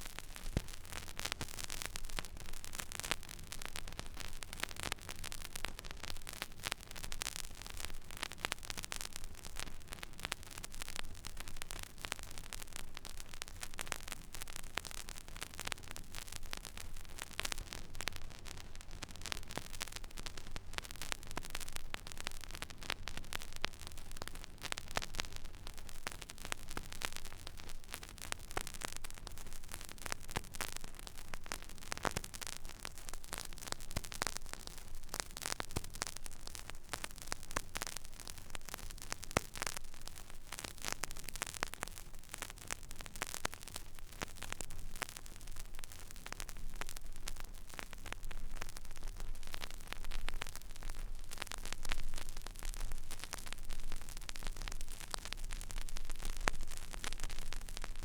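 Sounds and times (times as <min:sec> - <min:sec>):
vinyl record surface crackle: 0:00.0 - 0:58.0.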